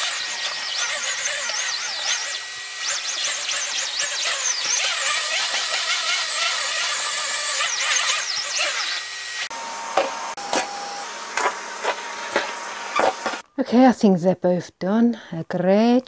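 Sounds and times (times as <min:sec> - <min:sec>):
vacuum cleaner on carpet: 0:00.0 - 0:13.4.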